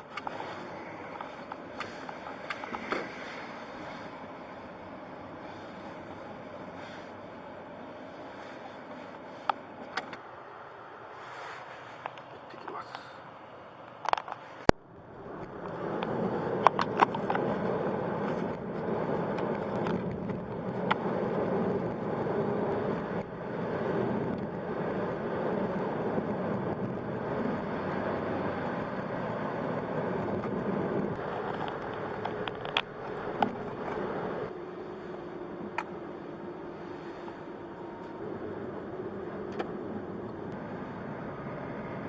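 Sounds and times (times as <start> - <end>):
car road and engine noise: 0.0 - 42.0.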